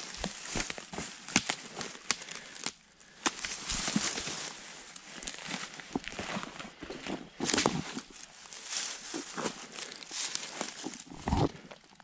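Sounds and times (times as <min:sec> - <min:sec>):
twigs snapping: 0:00.0 - 0:06.3, 0:07.4 - 0:12.0
footsteps crunching through dry leaves: 0:00.0 - 0:11.4.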